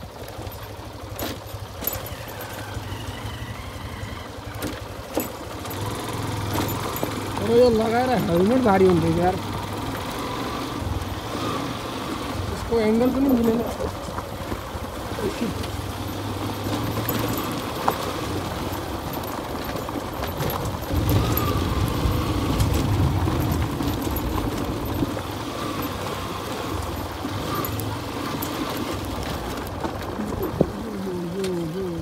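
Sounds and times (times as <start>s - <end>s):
motorcycle engine on gravel: 0.0s - 32.0s.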